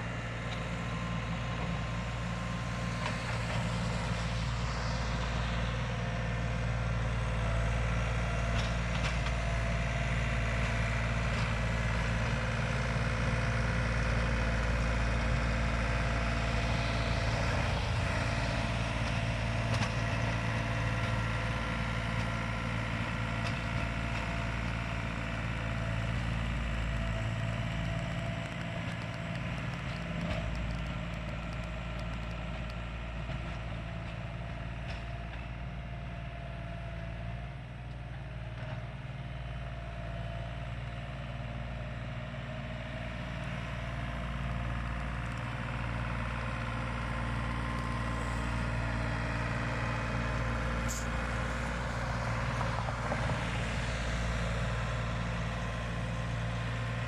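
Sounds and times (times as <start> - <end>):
tractor diesel engine droning: 0.0 - 57.0.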